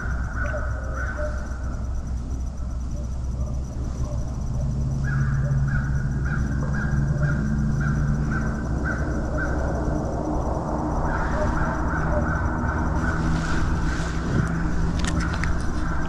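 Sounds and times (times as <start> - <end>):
bird calling: 0.0 - 1.8, 2.9 - 10.0, 10.9 - 16.0
low steady hum: 0.0 - 16.0.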